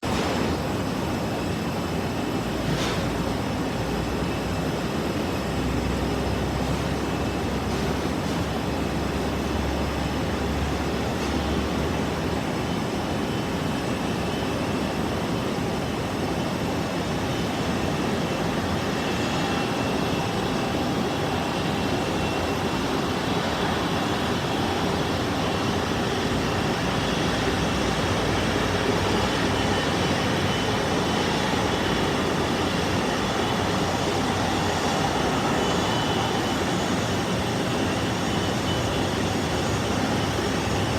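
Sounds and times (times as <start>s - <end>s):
airplane engines rushing: 0.0s - 40.9s.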